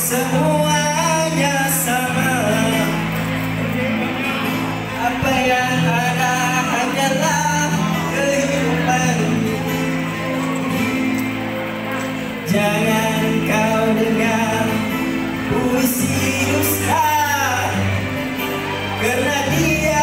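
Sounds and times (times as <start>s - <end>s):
man singing into a microphone: 0.0s - 11.0s, 11.9s - 20.0s
instrumental accompaniment with bass: 0.0s - 20.0s.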